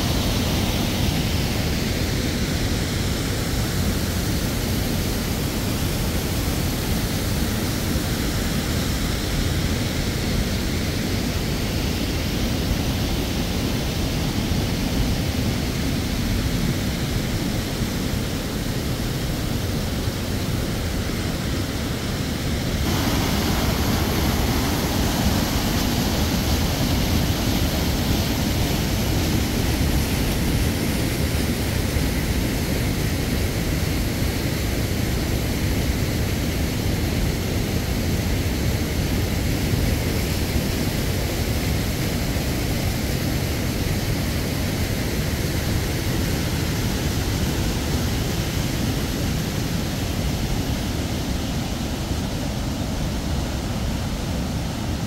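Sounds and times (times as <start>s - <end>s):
loud steady rushing roar: 0.0s - 55.0s.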